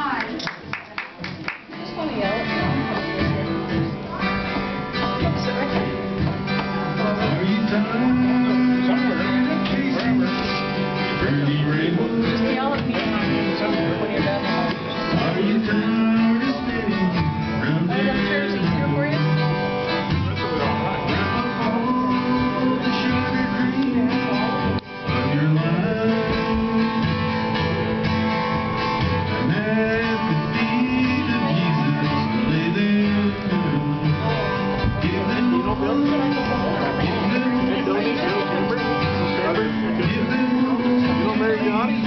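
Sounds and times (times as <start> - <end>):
acoustic guitar country tune: 0.0 - 42.0.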